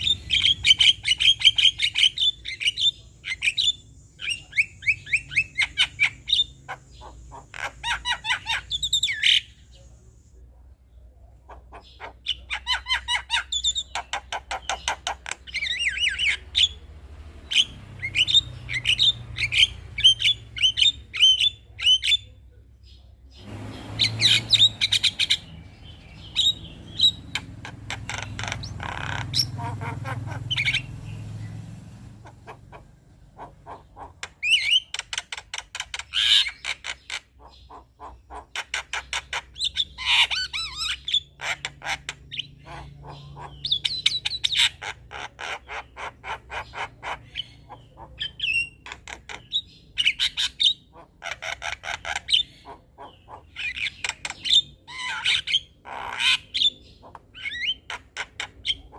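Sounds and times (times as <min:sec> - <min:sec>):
myna bird chattering: 0:00.0 - 0:58.9.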